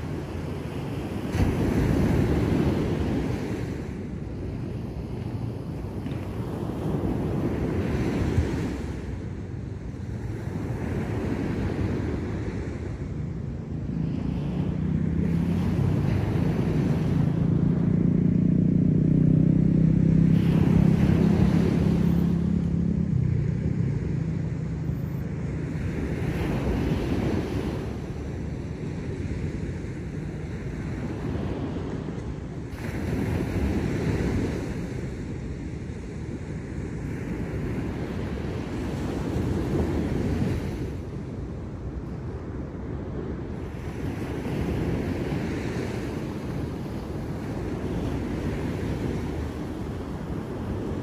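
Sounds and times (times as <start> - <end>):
ocean surf breaking on beach: 0.0 - 51.0.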